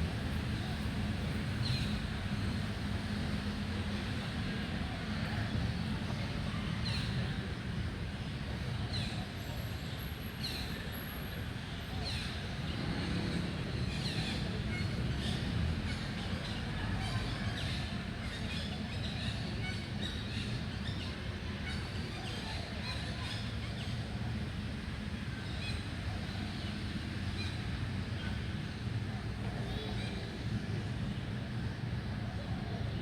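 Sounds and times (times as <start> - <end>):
low rumble of traffic: 0.0 - 33.0.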